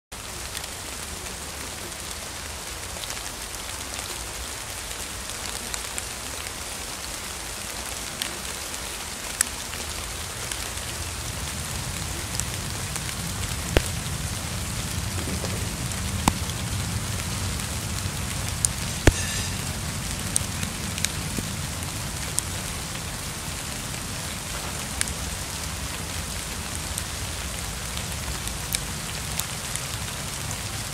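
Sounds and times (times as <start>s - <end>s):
rain falling on leaves: 0.1s - 30.9s.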